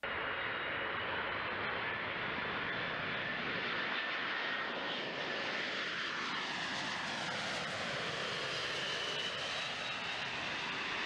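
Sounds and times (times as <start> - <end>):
jet engine whine: 0.0 - 11.0
jet aircraft roar: 0.1 - 11.0.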